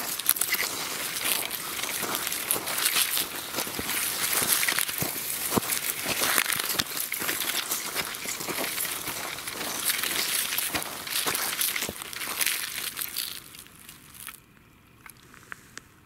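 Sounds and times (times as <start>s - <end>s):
dry leaves and twigs crunching: 0.0s - 14.4s.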